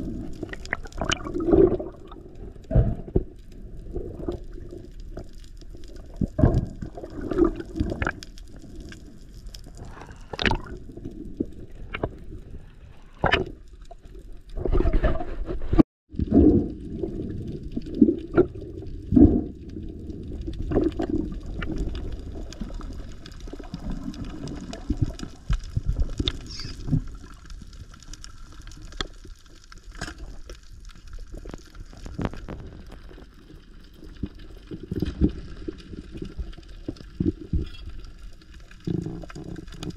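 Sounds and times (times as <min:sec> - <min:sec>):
underwater water bubbling: 0:00.0 - 0:39.9.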